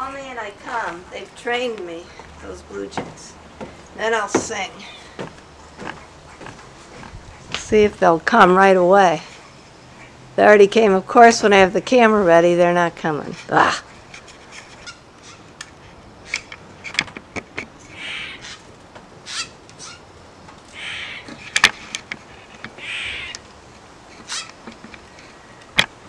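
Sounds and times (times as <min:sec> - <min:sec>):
jays calling harshly: 0:00.2 - 0:10.4, 0:13.3 - 0:17.0, 0:17.7 - 0:25.6.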